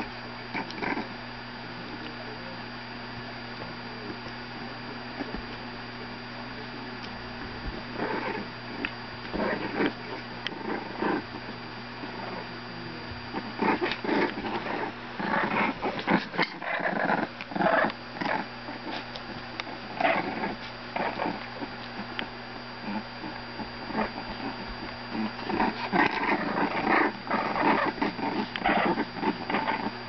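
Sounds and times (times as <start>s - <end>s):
puppies growling: 0.0s - 2.2s, 4.0s - 5.8s, 7.0s - 30.0s.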